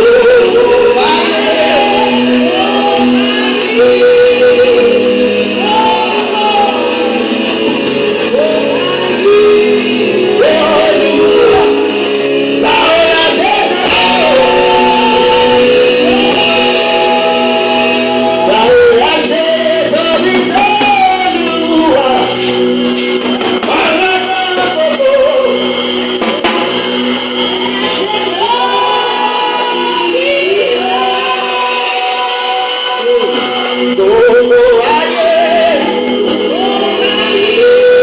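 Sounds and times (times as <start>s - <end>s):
instrumental accompaniment: 0.0s - 38.0s
voices singing: 0.0s - 38.0s.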